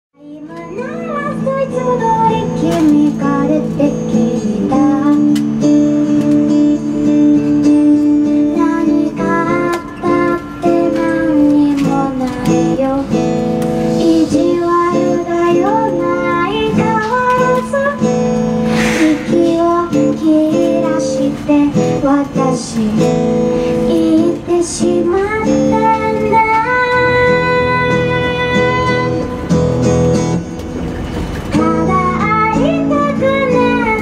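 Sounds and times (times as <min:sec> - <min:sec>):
woman singing: 0:00.2 - 0:06.3, 0:08.3 - 0:18.3, 0:19.2 - 0:29.2, 0:31.6 - 0:34.0
acoustic guitar strumming: 0:00.3 - 0:34.0.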